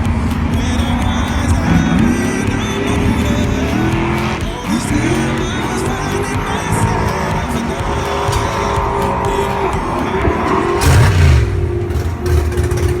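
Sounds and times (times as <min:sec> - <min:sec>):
race car engine running: 0:00.0 - 0:13.0.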